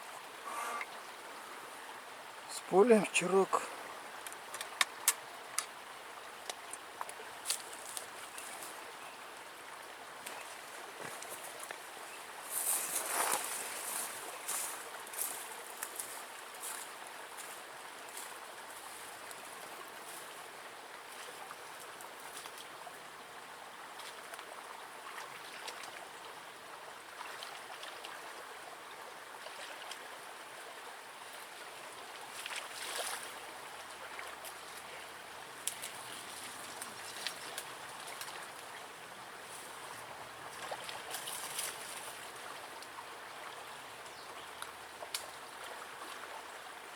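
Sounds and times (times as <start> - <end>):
running water in river: 0.0 - 46.9.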